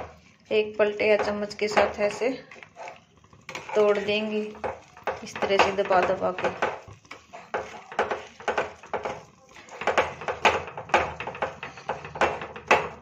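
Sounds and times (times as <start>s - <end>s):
metal spatula scraping steel pan: 0.0s - 13.0s.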